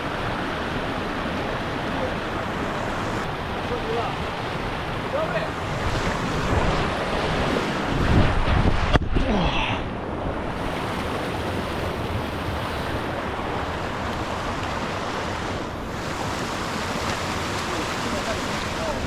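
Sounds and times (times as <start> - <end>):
fast-flowing stream rushing: 0.0 - 8.2, 10.4 - 19.0
wind buffeting microphone: 0.0 - 19.0.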